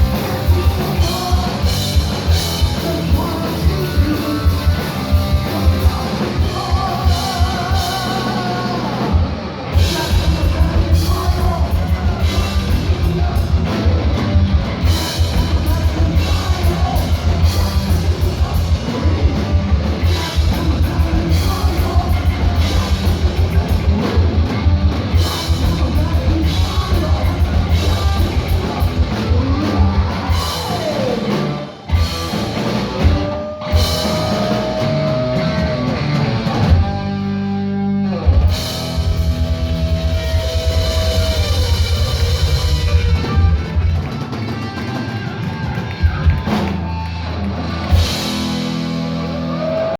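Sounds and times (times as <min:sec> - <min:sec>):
drum kit with rapid bass drum: 0:00.0 - 0:37.3, 0:38.3 - 0:49.9
distorted electric guitar: 0:00.0 - 0:49.9
sliding lead guitar: 0:00.0 - 0:49.9.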